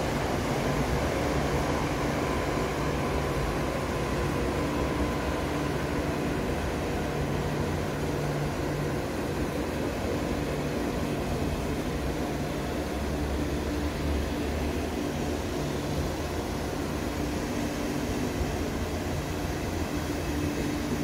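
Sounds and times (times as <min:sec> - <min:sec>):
train low hum: 0:00.0 - 0:21.0.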